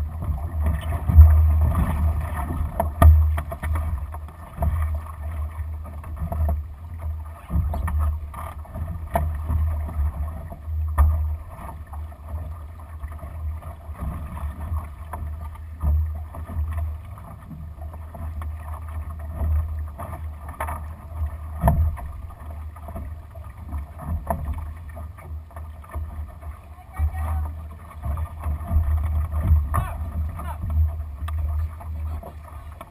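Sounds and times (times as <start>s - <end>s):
water slapping along hull: 0.0s - 32.9s.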